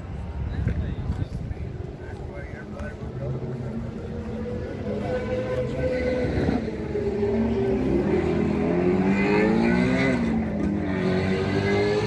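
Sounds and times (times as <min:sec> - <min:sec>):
car engine revving: 0:01.8 - 0:12.0.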